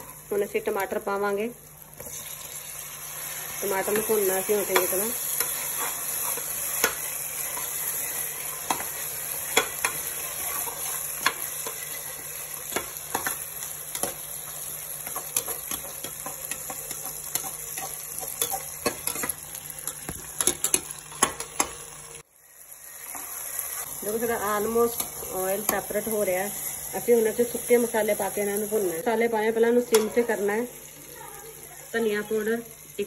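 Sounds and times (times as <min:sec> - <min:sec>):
onions and tomatoes sizzling in oil: 0:00.0 - 0:33.0.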